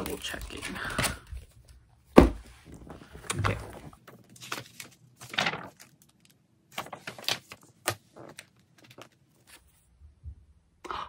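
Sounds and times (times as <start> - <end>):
paper and card rustling: 0.0 - 1.7, 2.7 - 9.9.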